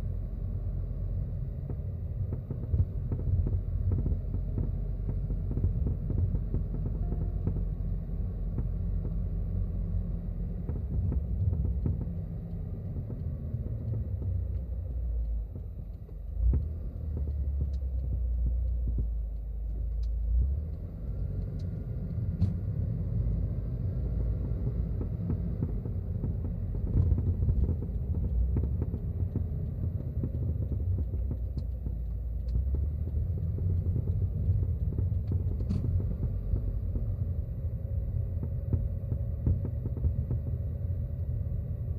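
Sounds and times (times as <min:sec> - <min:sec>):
low road rumble: 0:00.0 - 0:41.9
sharp clicks and knocks: 0:01.5 - 0:09.7, 0:10.4 - 0:41.9.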